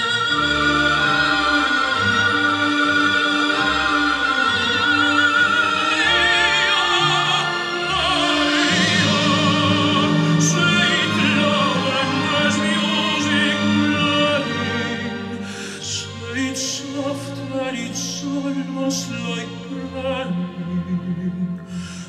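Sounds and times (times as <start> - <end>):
operatic singing with vibrato: 0.0 - 22.0
orchestra playing: 0.0 - 22.0.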